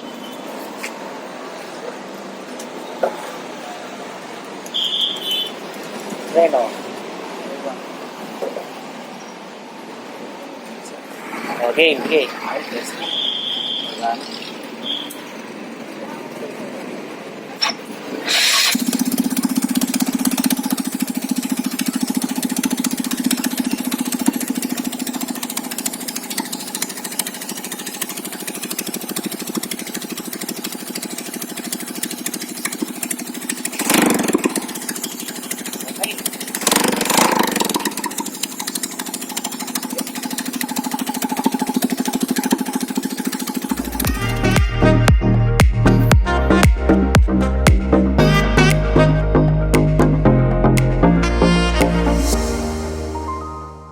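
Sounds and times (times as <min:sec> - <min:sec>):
scooter engine running: 0:00.0 - 0:09.1, 0:09.8 - 0:50.3.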